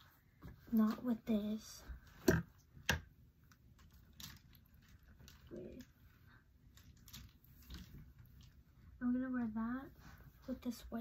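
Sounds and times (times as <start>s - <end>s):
clothes and hangers rustling: 0.0s - 11.0s.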